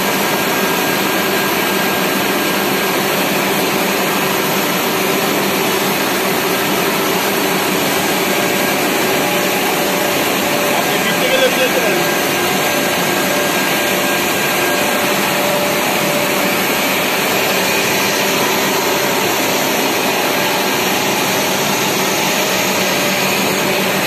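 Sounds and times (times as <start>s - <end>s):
coil-winding machine whirring: 0.0s - 24.0s.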